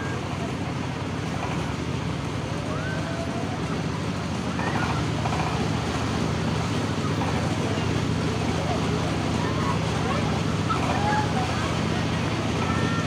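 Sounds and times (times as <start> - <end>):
distant voices: 0.0 - 13.0
low rumble of night market: 0.0 - 13.0.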